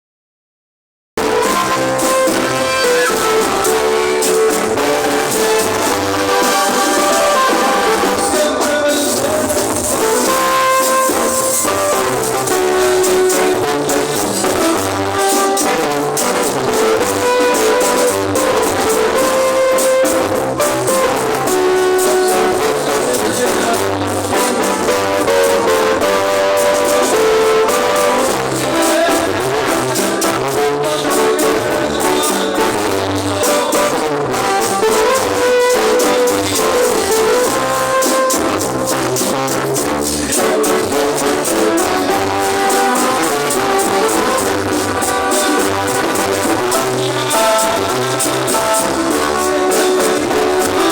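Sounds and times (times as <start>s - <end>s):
bass notes: 1.2s - 50.9s
brass band playing: 1.2s - 50.9s.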